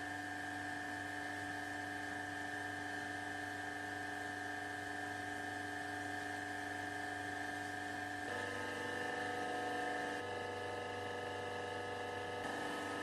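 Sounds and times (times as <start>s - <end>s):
ice machine whining and humming: 0.0s - 13.0s.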